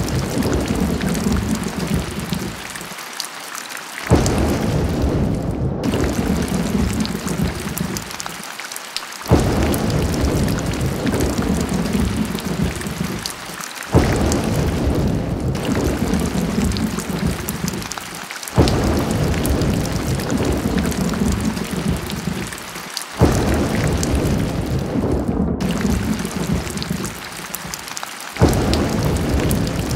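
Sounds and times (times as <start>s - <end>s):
thunder claps and rumbling: 0.0s - 2.8s, 4.1s - 8.3s, 9.3s - 29.9s
heavy rain hiss: 0.0s - 29.9s.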